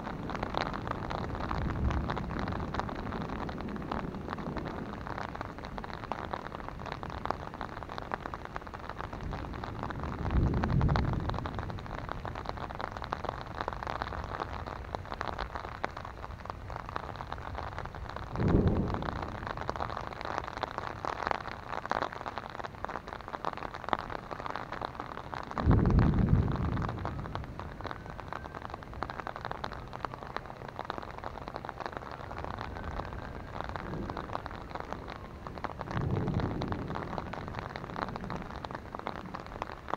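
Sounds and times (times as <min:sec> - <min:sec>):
low rumbles of thunder: 0:00.0 - 0:39.9
rain pattering on an umbrella: 0:00.0 - 0:39.9.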